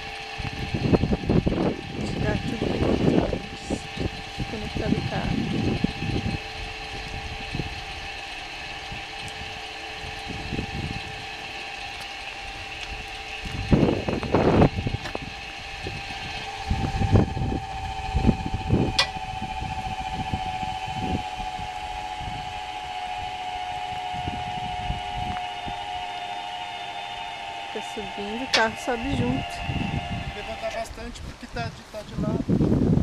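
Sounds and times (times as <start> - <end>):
electric jack motor whining: 0.0 - 31.3.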